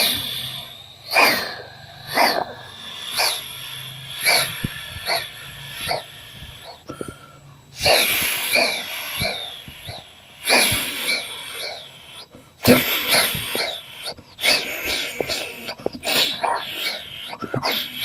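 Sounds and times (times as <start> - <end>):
person imitating steam locomotive: 0.0 - 7.2, 7.8 - 18.0.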